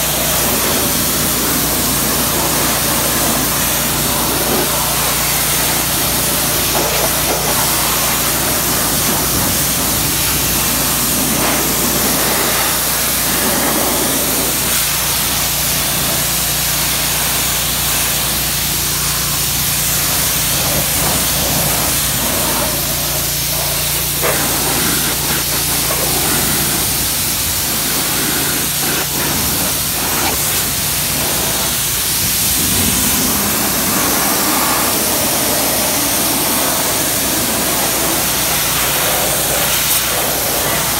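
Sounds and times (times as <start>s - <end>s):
pressure washer water jet hissing: 0.0s - 40.9s
washer motor hum: 0.0s - 40.9s.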